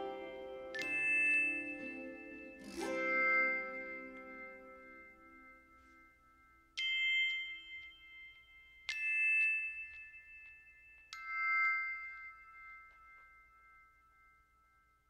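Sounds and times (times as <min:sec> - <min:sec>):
high bell chimes: 0:00.0 - 0:15.0.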